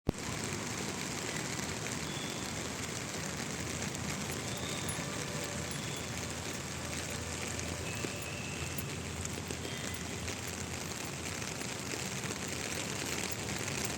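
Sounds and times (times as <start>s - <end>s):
steady rain hiss: 0.1s - 13.9s.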